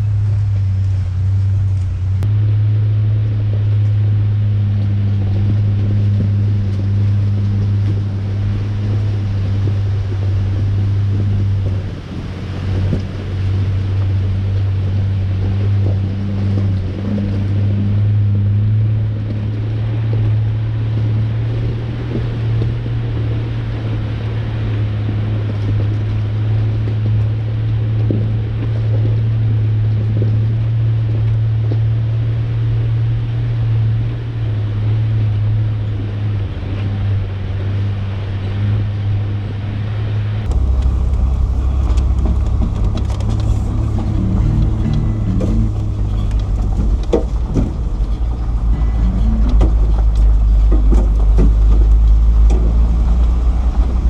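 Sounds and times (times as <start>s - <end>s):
pickup engine droning: 0.0s - 54.0s
road rumble: 0.0s - 54.0s.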